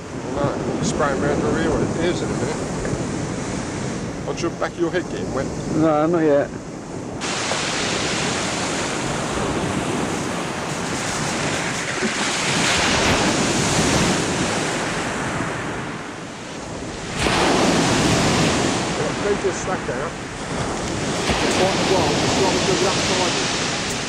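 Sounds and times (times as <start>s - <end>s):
waves breaking on shingle beach: 0.0s - 24.0s
wind on microphone: 0.0s - 24.0s.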